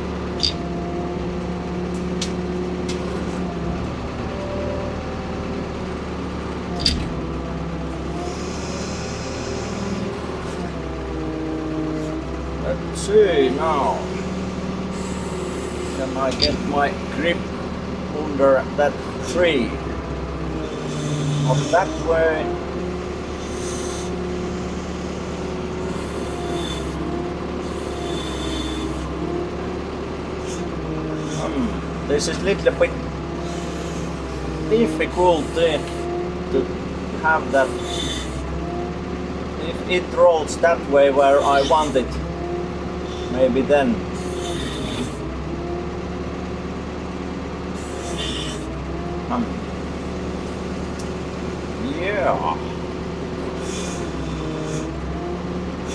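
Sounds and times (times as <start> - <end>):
excavator engine running: 0.0 - 55.9
hydraulic whine: 0.0 - 55.9.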